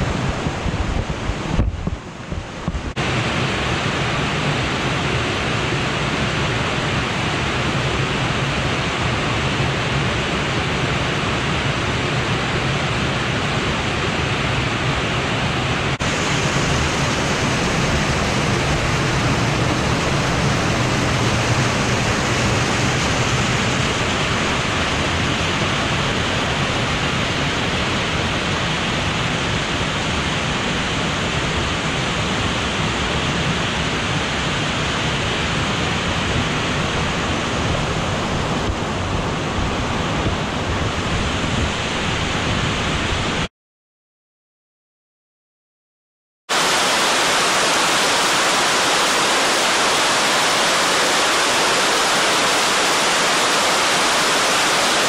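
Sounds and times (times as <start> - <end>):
waterfall rushing: 0.0 - 43.4, 46.5 - 55.0.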